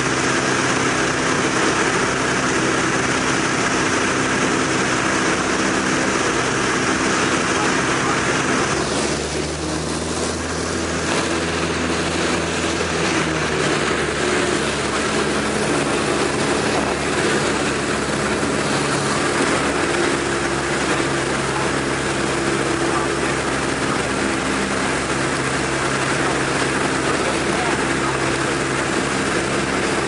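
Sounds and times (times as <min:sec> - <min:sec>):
light aircraft engine and propeller: 0:00.0 - 0:30.0.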